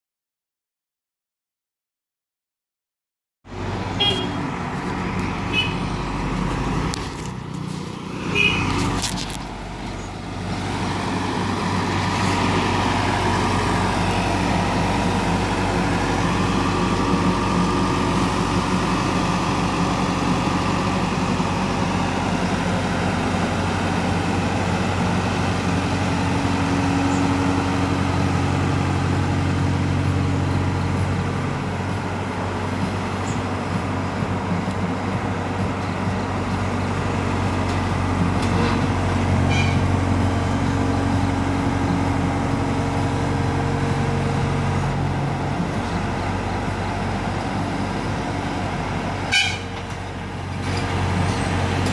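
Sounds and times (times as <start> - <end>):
heavy diesel engine running: 3.5 - 51.9.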